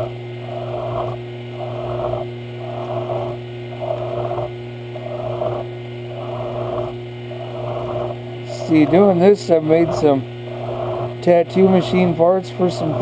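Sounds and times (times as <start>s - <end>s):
lathe motor hum: 0.0s - 13.0s
file rasping against brass: 0.6s - 13.0s.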